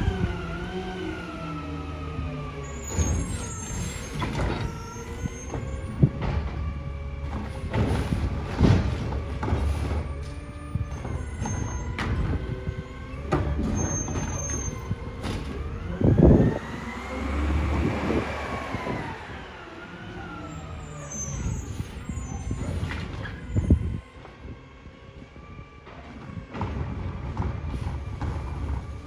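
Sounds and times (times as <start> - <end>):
garbage truck engine and hydraulics revving: 0.0 - 29.0.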